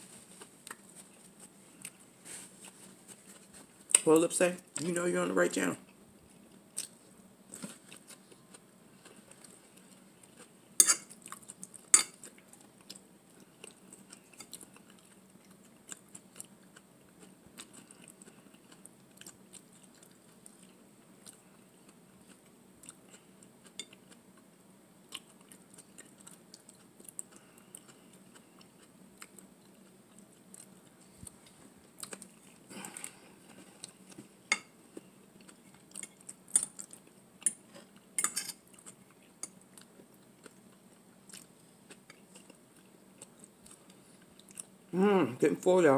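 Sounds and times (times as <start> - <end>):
close-up chewing: 5.9 - 24.5, 25.1 - 44.8.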